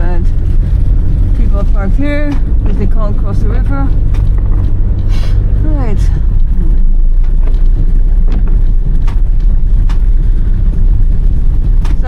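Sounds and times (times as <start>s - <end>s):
car knocking over bumps: 0.0s - 12.0s
engine and road rumble: 0.0s - 12.0s.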